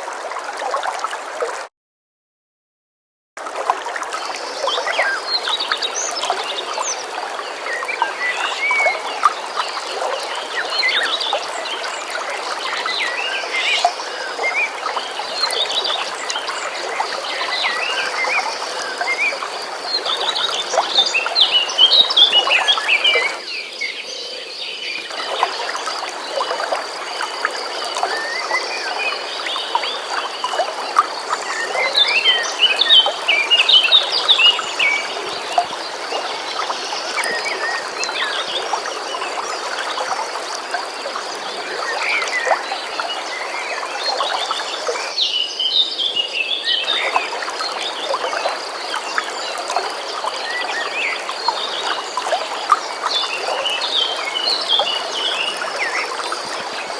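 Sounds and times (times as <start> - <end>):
stream water flowing: 0.0 - 1.7, 3.4 - 56.9.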